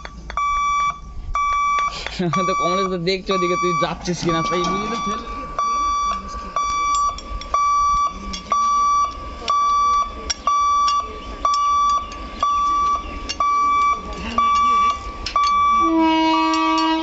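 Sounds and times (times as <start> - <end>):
level crossing warning beeps: 0.0 - 17.0.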